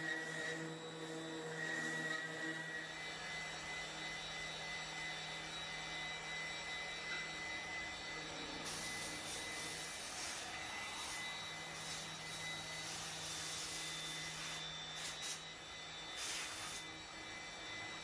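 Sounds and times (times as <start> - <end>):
cnc router cutting wood: 0.0 - 18.0.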